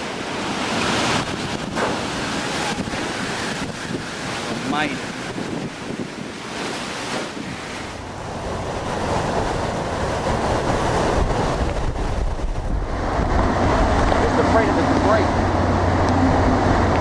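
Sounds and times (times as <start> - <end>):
driving rain: 0.0 - 17.0
wind buffeting microphone: 0.0 - 17.0.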